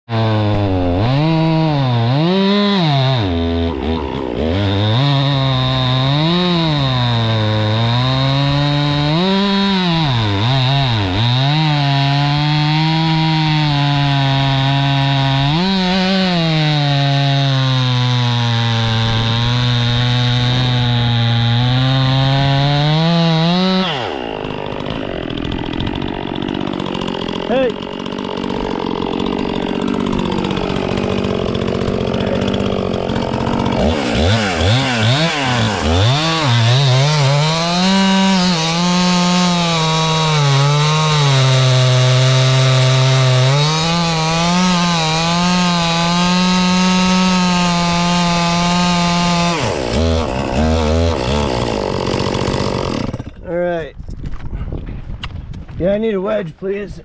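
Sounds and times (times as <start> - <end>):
chainsaw cutting wood: 0.1 - 53.4.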